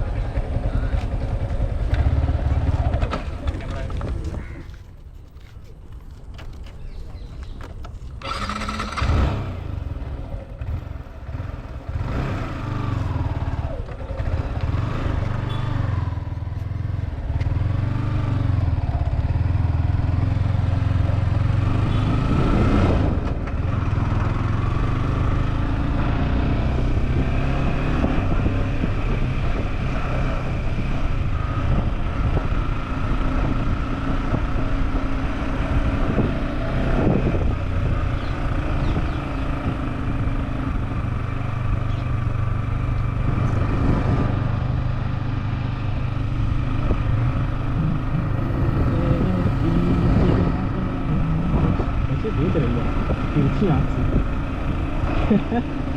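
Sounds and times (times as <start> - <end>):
motorcycle engine running: 0.0 - 4.6, 8.2 - 55.9.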